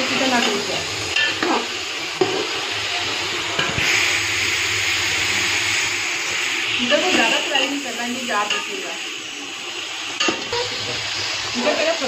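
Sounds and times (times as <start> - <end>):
chicken and onions sizzling: 0.0 - 12.0.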